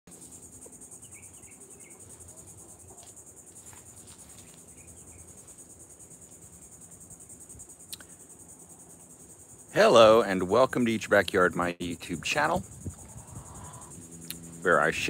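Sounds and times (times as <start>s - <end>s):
insects trilling: 0.1s - 15.0s.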